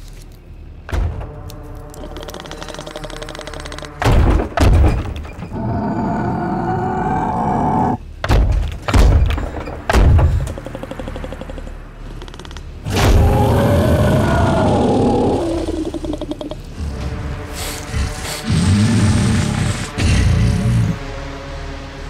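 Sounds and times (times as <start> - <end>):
tense film score: 0.0 - 22.0.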